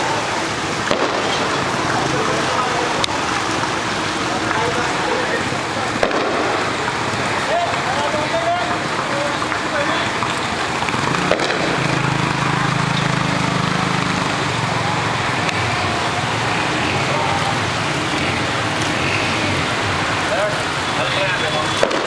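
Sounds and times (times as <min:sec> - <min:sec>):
continuous wash of outdoor noise: 0:00.0 - 0:22.0
motor vehicle humming: 0:00.0 - 0:22.0.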